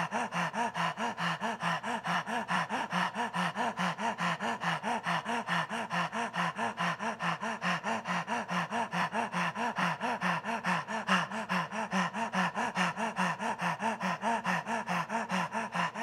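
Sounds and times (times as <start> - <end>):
man panting rapidly: 0.0 - 16.0.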